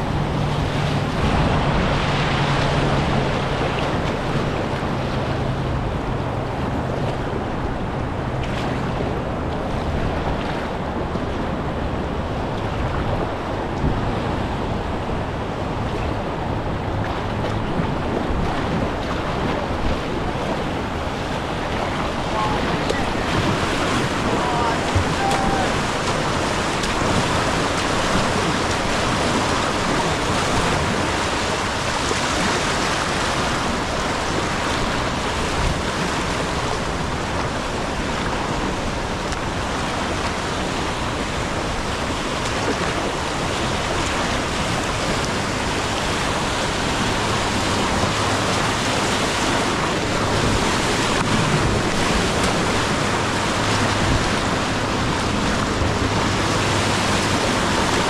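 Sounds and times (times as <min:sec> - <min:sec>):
river water rushing: 0:00.0 - 0:58.0
wind noise on microphone: 0:00.0 - 0:58.0.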